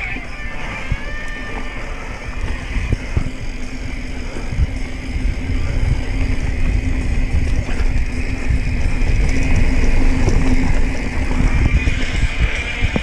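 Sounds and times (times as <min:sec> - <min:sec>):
mountain bike rumbling on dirt trail: 0:00.0 - 0:13.0
wind rush: 0:00.0 - 0:13.0.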